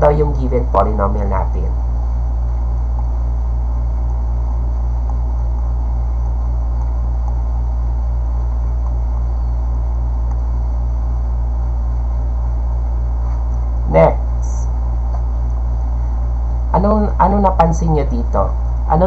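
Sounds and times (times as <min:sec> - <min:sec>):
loud low hum: 0:00.0 - 0:19.0.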